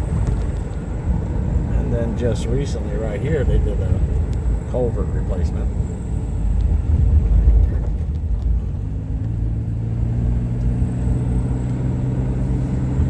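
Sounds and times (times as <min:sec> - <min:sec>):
road noise inside car: 0:00.0 - 0:13.0
steady engine hum: 0:00.0 - 0:13.0.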